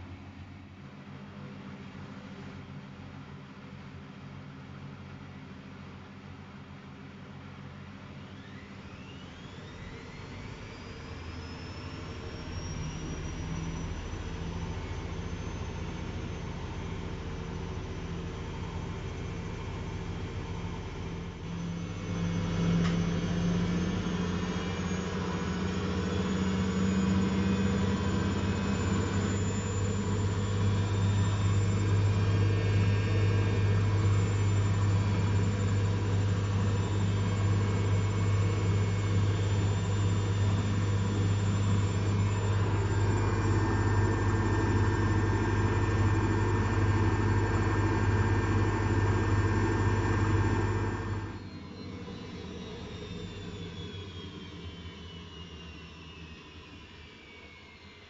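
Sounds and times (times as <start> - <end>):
washer-dryer motor hum and whine: 0.0 - 58.0.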